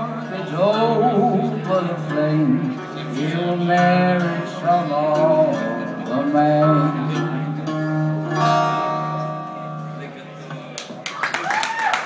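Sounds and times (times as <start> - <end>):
acoustic guitar blues: 0.0 - 11.0.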